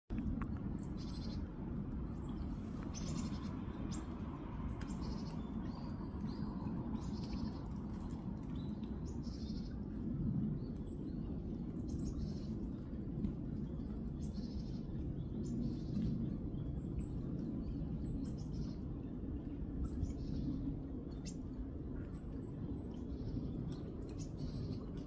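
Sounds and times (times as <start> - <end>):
low background rumble: 0.1 - 25.0.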